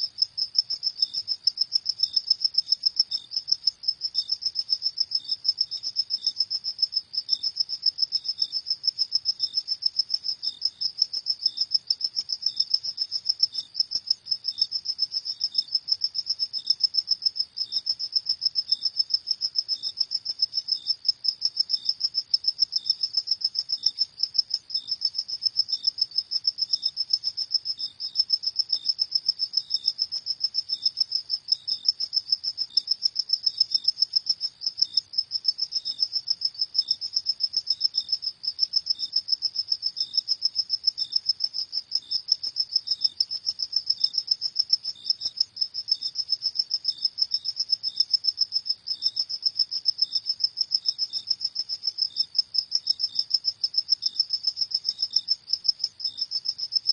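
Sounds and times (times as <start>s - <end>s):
faint cricket chirps: 0.0s - 56.9s.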